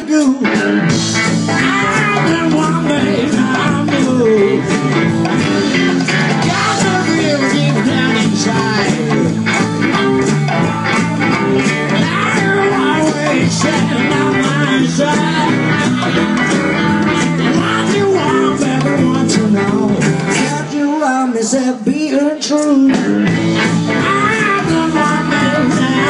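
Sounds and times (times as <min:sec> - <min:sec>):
drums: 0:00.0 - 0:26.0
electric guitar: 0:00.0 - 0:26.0.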